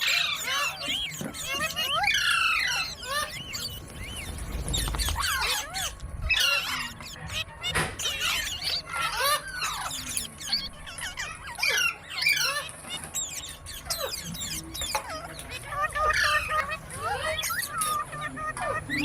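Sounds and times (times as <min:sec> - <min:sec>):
parrot squawking and chirping: 0:00.0 - 0:19.0.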